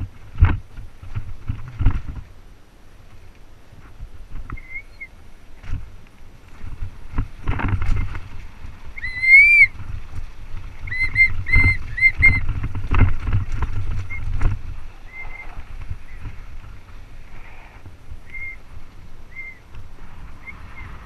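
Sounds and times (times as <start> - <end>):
bike rattling over bumps: 0.0 - 2.4, 5.6 - 21.0
bike tyres rumbling on rocky trail: 0.0 - 4.9, 5.5 - 21.0.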